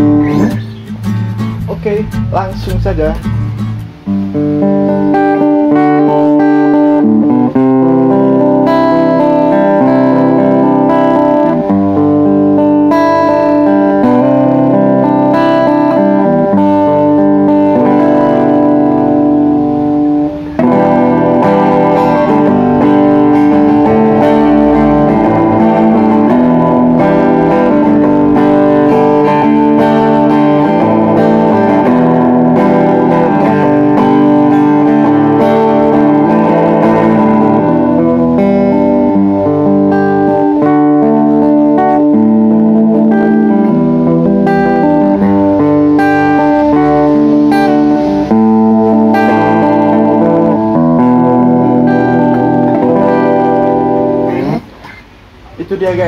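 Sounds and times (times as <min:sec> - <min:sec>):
acoustic-electric guitar through amp: 0:00.0 - 0:56.0.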